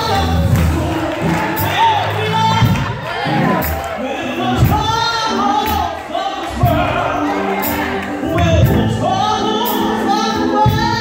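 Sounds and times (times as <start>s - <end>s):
man singing gospel into microphone: 0.0s - 3.0s, 4.0s - 11.0s
instrumental backing with low beat: 0.0s - 11.0s.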